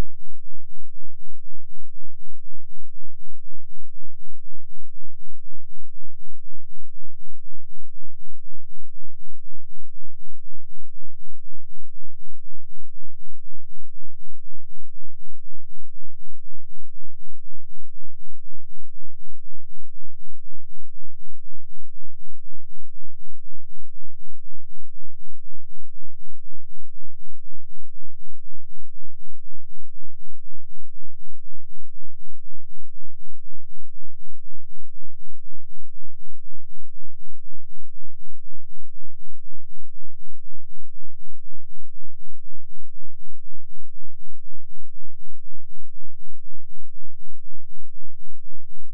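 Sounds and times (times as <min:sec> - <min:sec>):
very low pulsing test tone: 0:00.0 - 0:48.9.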